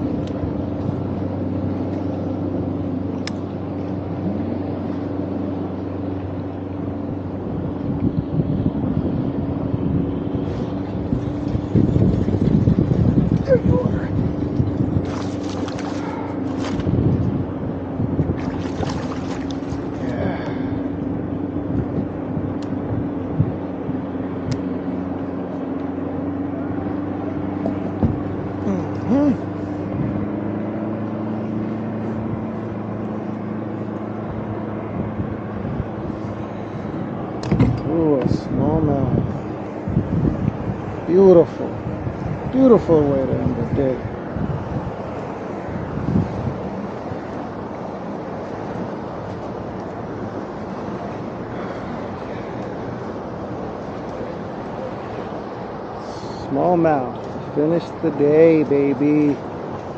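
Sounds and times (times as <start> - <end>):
motorboat engine hum: 0.0 - 59.9.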